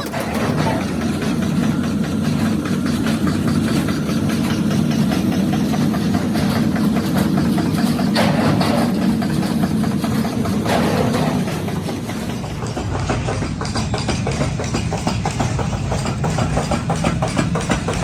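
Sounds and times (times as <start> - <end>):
machine motor droning with clatter: 0.0 - 18.0.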